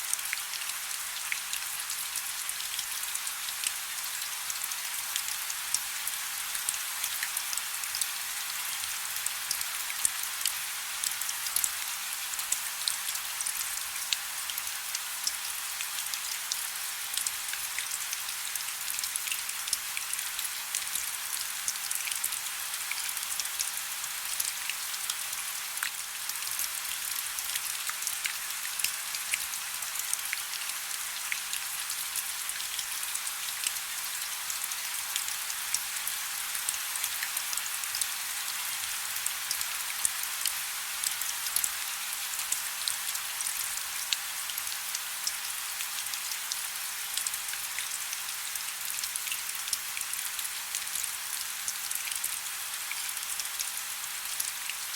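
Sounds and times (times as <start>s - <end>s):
raindrops ticking on a surface: 0.1s - 54.9s.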